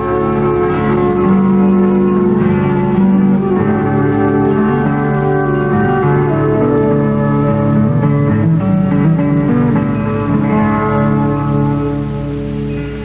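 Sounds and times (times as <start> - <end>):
plucked string instruments: 0.0 - 13.0.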